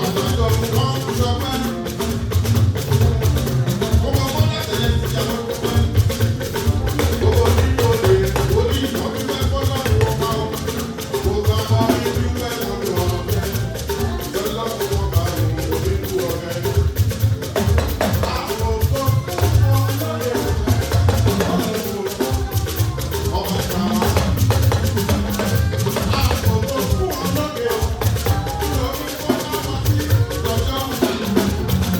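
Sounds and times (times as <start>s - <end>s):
band music: 0.0s - 31.9s
fast shaker rattle: 0.0s - 31.9s
heavy bass: 0.0s - 31.9s.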